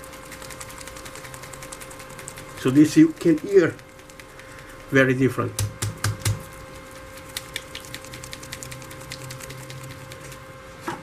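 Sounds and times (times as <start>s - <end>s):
paint mixing clicks and rattles: 0.0s - 10.5s.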